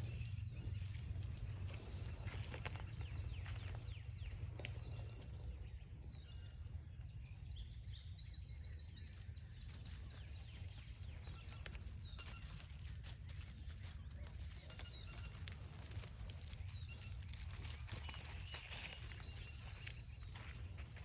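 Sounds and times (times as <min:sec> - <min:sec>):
footsteps on forest trail: 0:00.0 - 0:07.6, 0:08.9 - 0:21.0
bird singing: 0:00.0 - 0:21.0.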